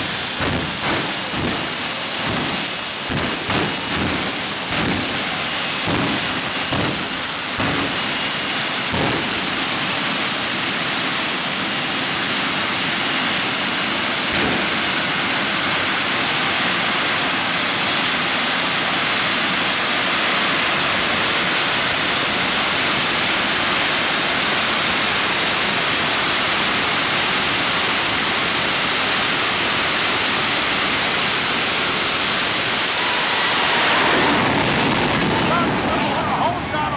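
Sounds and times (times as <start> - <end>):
high turbine whine: 0.0 - 36.9
jet engine roar: 0.0 - 36.9.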